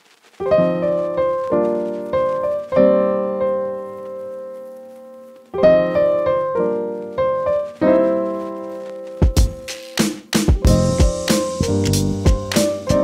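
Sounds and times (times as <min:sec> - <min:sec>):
piano chords ringing: 0:00.4 - 0:09.7, 0:10.6 - 0:13.0.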